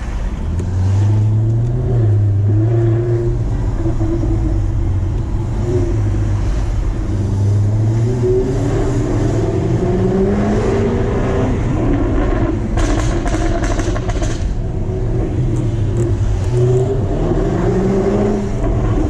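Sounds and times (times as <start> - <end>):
car exhaust deep drone: 0.0 - 19.0.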